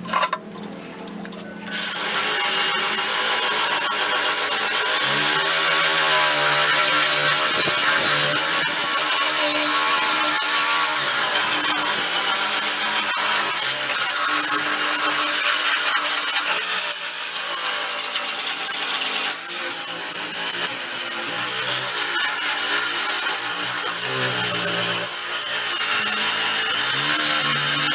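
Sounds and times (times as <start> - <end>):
power sander on metal: 1.6 - 27.9.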